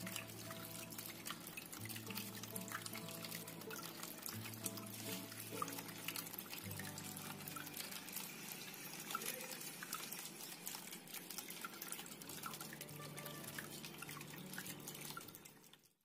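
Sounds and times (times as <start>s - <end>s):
fountain water trickling: 0.0s - 16.0s
small water splashes: 0.0s - 16.0s.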